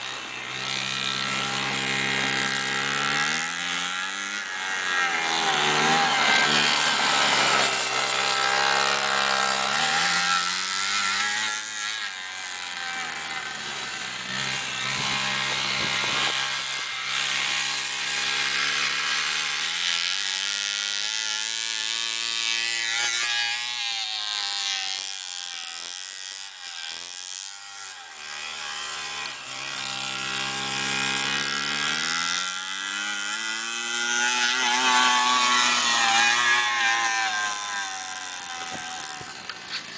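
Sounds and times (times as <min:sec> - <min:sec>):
small two-stroke engine revving: 0:00.0 - 0:39.9.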